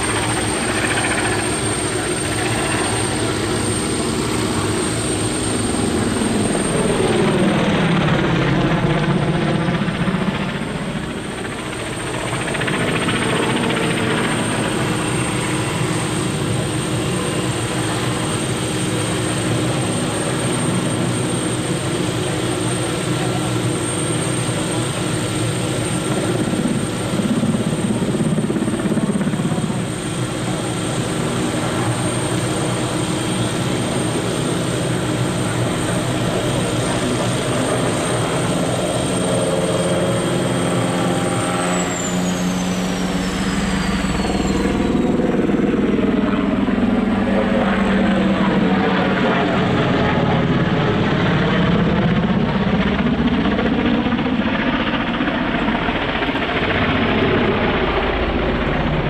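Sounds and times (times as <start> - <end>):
helicopter rotor beat: 0.0 - 59.0
helicopter turbine whine: 0.0 - 59.0.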